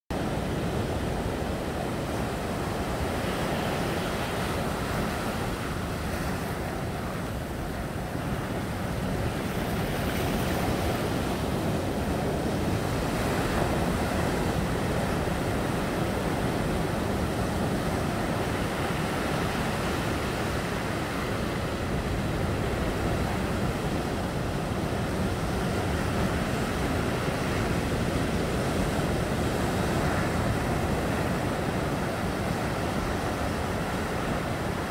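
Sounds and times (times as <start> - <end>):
waves breaking on shore: 0.1 - 34.9.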